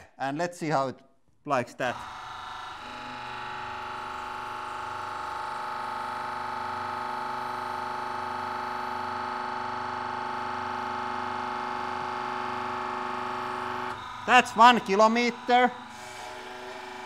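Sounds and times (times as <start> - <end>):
pump whining: 1.8 - 17.0.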